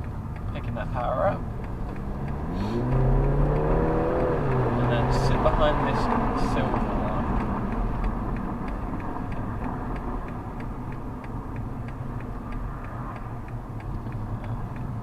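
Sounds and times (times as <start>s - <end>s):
car engine and tyre hum: 0.0s - 15.0s
car indicator ticking: 0.0s - 15.0s.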